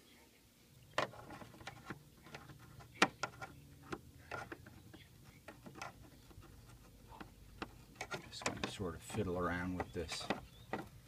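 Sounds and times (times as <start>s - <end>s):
hard plastic clicking and knocking: 0.9s - 11.0s.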